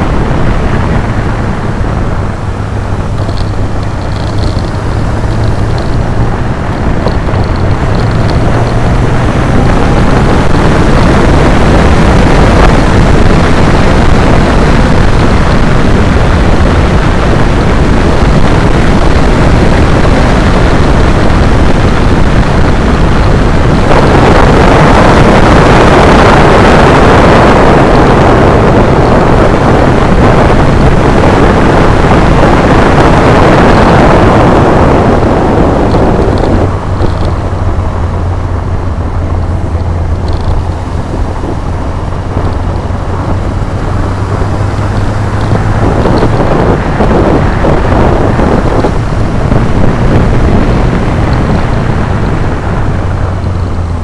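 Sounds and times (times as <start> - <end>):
motorcycle engine drone: 0.0 - 54.0
wind rushing over microphone: 0.0 - 54.0.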